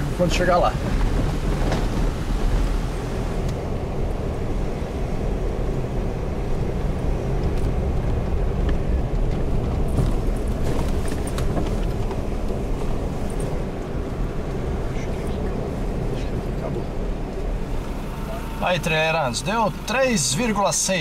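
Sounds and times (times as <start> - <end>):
car rumbling on dirt road: 0.0 - 21.0.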